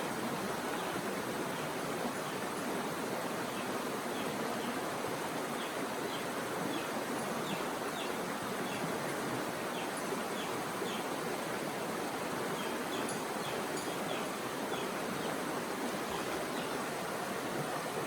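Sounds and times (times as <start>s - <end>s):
forest stream rushing: 0.0s - 18.0s.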